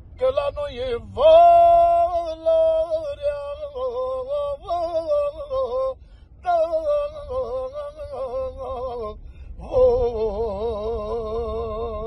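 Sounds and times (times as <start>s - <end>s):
man singing: 0.2s - 12.0s.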